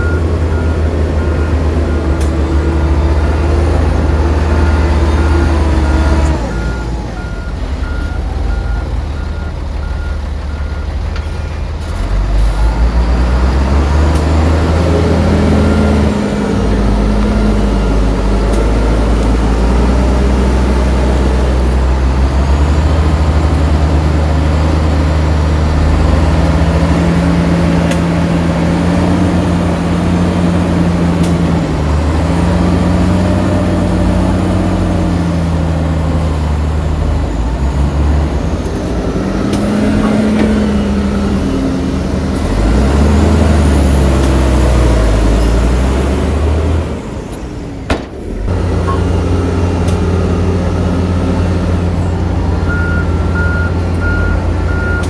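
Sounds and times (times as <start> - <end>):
heavy diesel machinery revving: 0.0 - 55.0.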